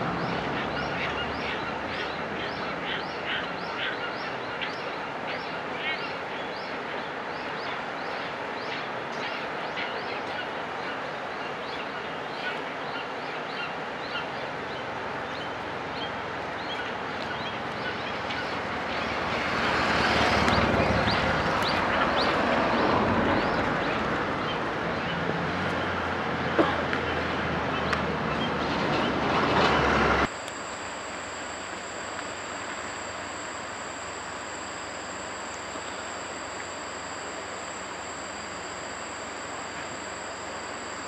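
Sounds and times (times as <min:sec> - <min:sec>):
broad rushing noise: 0:00.0 - 0:41.0
steady outdoor hiss: 0:00.0 - 0:41.0.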